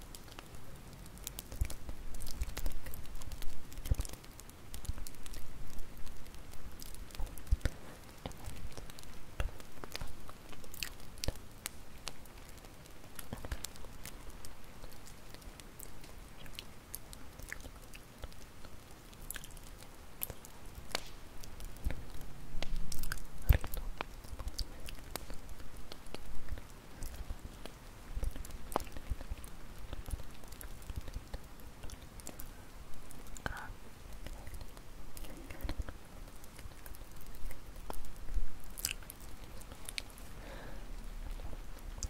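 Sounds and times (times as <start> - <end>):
burning wood popping and snapping: 0.0 - 42.0.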